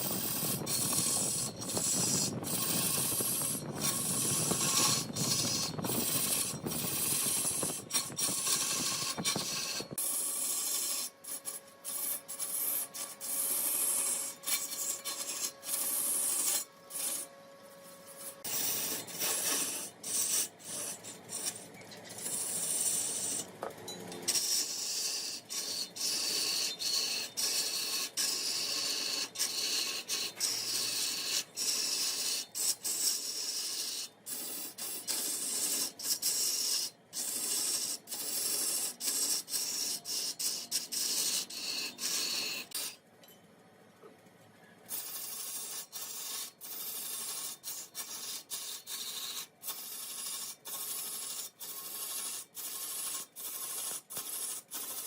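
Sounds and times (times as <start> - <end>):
wood rasping on a lathe: 0.0 - 43.0, 44.9 - 55.0.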